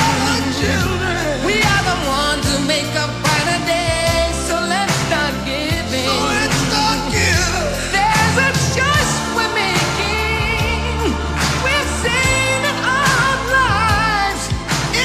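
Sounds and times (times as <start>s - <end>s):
pop-rock song on radio: 0.0s - 15.0s.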